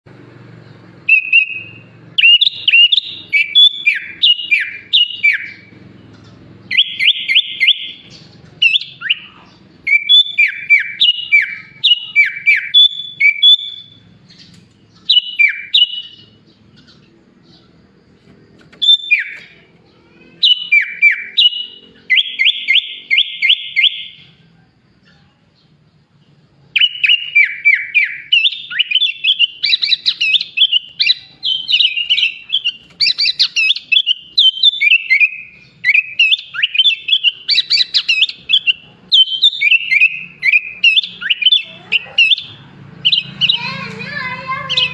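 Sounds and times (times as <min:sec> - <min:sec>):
bulbul singing: 0:00.1 - 0:44.9.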